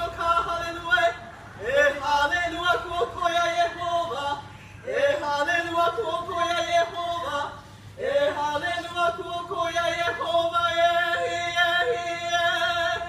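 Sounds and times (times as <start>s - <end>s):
person singing long sliding notes: 1.6s - 13.0s.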